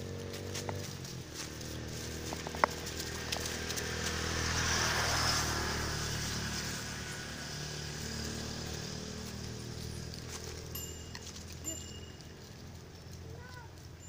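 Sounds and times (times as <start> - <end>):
low vehicle engine hum: 0.0 - 14.0.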